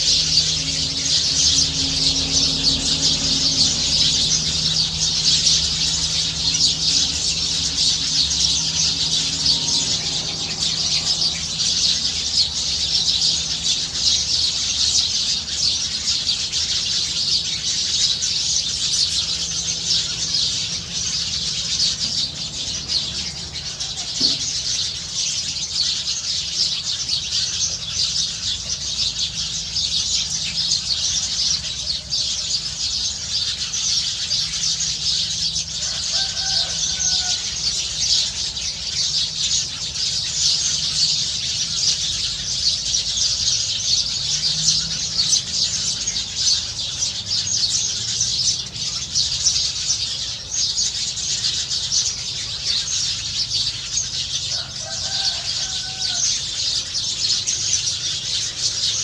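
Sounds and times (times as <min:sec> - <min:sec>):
small birds chattering: 0:00.0 - 0:59.0.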